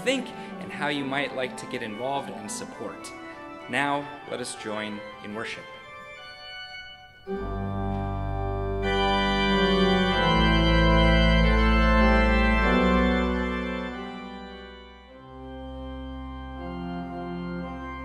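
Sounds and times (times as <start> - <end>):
church organ chords: 0.0 - 18.0.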